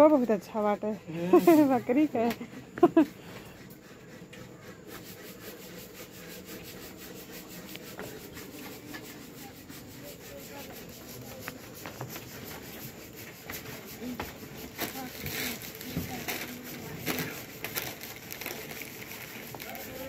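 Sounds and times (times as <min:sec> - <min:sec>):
phone rubbing against fur: 0:02.9 - 0:20.0.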